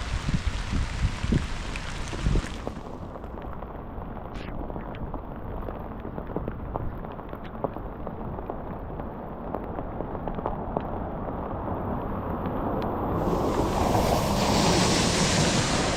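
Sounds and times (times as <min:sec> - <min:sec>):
rain low rumble: 0:00.0 - 0:15.9.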